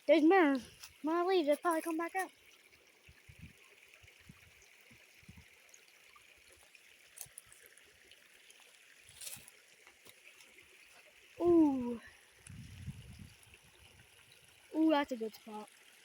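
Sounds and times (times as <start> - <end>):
creek trickling: 0.0 - 16.0.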